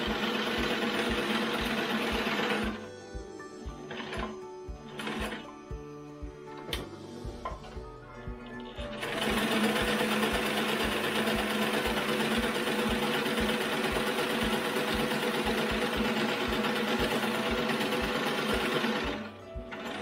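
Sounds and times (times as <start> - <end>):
sewing machine running: 0.0 - 2.9, 3.8 - 5.5, 8.5 - 20.0.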